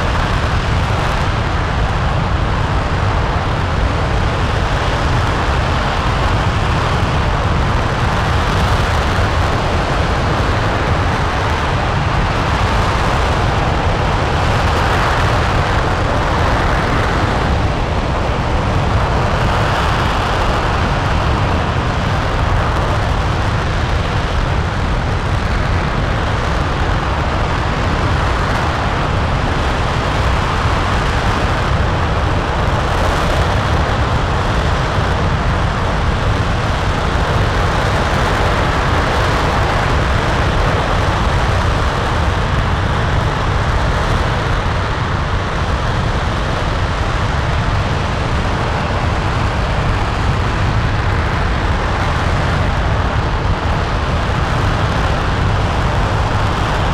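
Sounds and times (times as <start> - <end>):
rocket engine roaring: 0.0 - 56.9.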